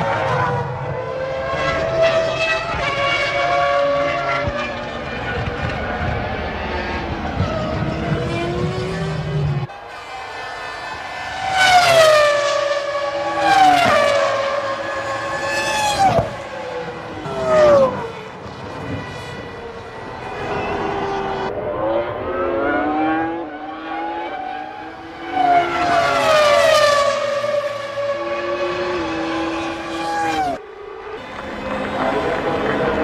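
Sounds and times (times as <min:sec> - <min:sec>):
racing cars passing at high revs: 0:00.0 - 0:33.0.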